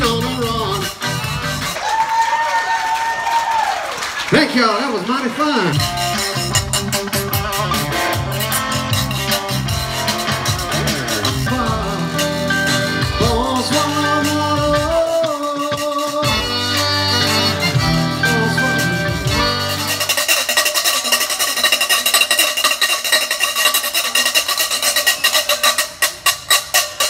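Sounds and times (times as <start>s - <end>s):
cajun band music: 0.0s - 2.2s, 4.2s - 27.0s.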